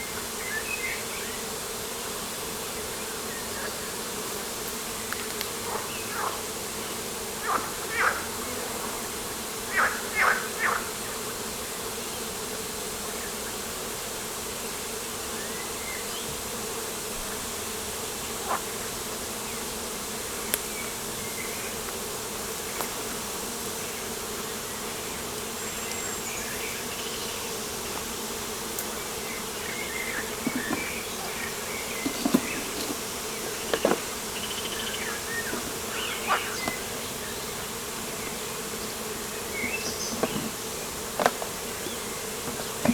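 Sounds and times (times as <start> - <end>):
insects buzzing: 0.0 - 42.9.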